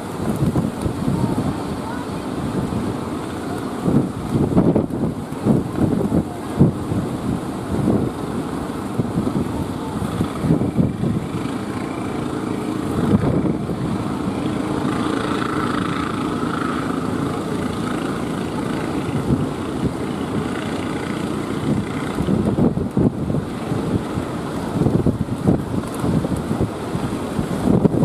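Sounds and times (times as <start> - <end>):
boat engine running: 0.0 - 28.0
waves washing: 0.0 - 28.0
wind buffeting microphone: 0.0 - 28.0.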